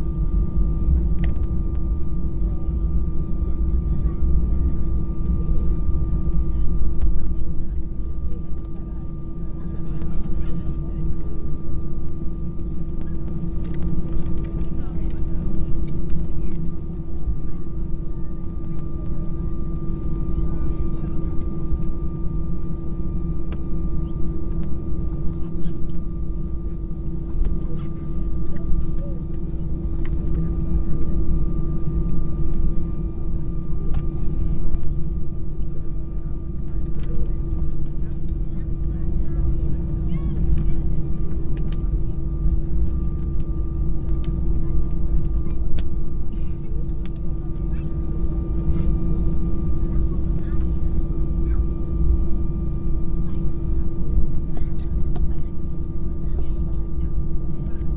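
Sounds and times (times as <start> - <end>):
airliner cabin rumble: 0.0 - 57.9
constant hum: 0.0 - 57.9
thin steady whine: 0.0 - 57.9.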